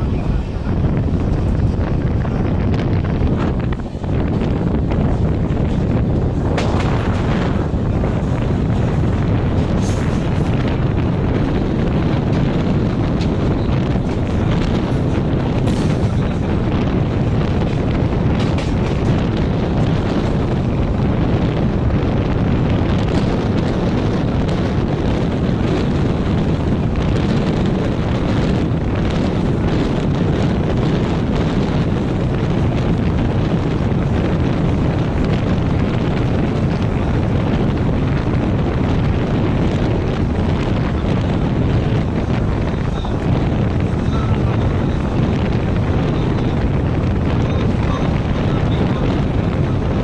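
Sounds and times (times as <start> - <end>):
passenger train rumbling on track: 0.0 - 50.0.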